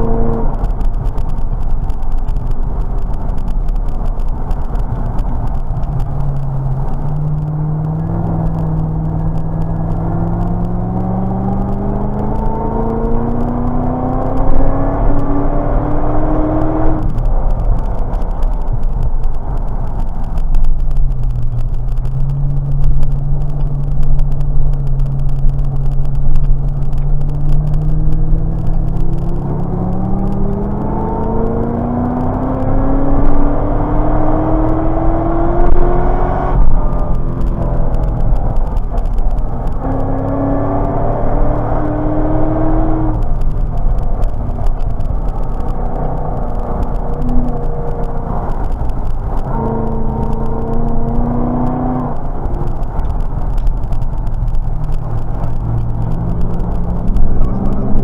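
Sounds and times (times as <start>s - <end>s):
car engine accelerating and shifting: 0.0s - 58.0s
road and wind noise: 0.0s - 58.0s.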